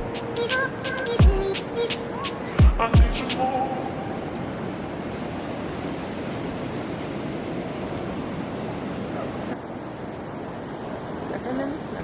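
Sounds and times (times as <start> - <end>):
ocean surf on beach: 0.0 - 12.0
wind: 0.0 - 12.0.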